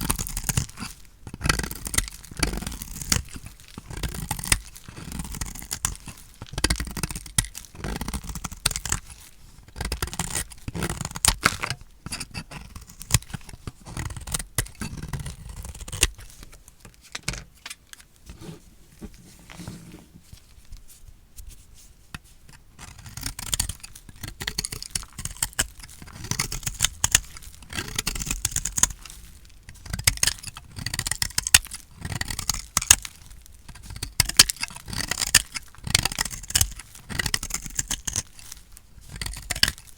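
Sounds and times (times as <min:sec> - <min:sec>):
knife cutting dry soap: 0:00.1 - 0:16.6, 0:22.1 - 0:39.9.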